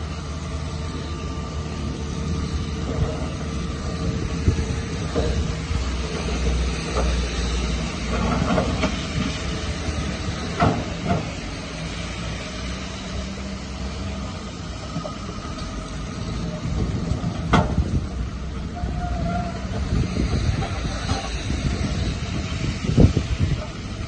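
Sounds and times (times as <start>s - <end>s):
heavy machinery diesel rumble: 0.0s - 24.0s.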